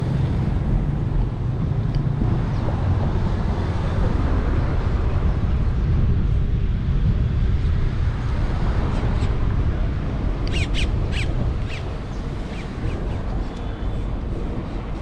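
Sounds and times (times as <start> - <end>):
street traffic: 0.0 - 15.0
wind rumble on microphone: 0.0 - 15.0.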